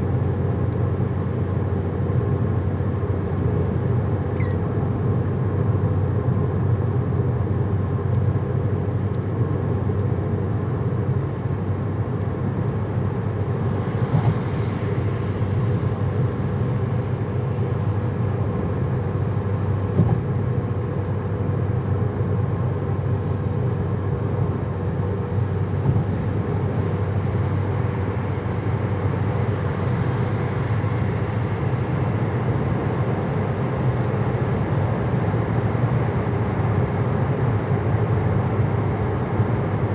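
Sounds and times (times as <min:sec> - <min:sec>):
road and engine noise inside car: 0:00.0 - 0:39.9.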